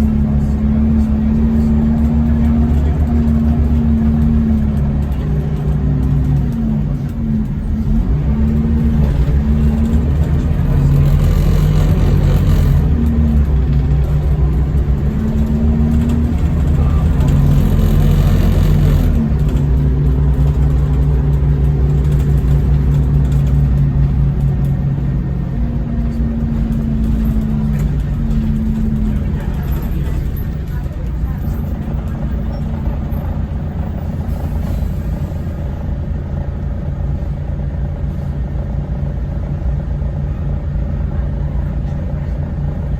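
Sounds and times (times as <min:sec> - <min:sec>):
bus engine rumbling: 0:00.0 - 0:42.9.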